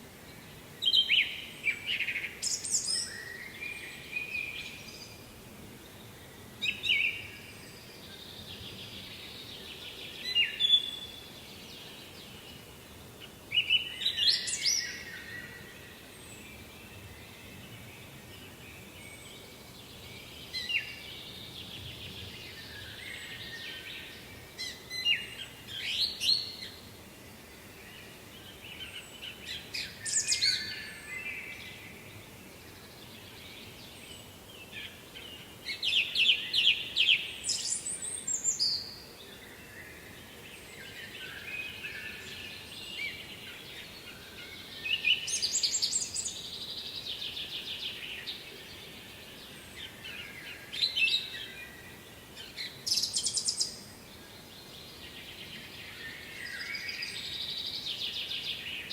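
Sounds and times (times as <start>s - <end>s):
faint background noise: 0.0s - 58.9s
songbird singing: 0.0s - 58.9s.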